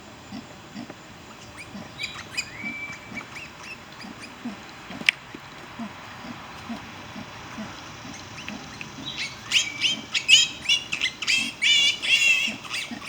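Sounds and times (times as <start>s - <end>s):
piglets squealing: 1.5s - 5.0s, 5.8s - 13.0s.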